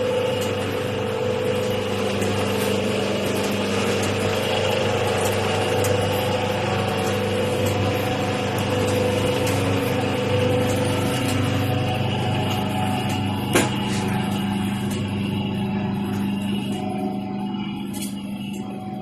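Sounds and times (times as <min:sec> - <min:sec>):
packing machine motor hum: 0:00.0 - 0:19.0.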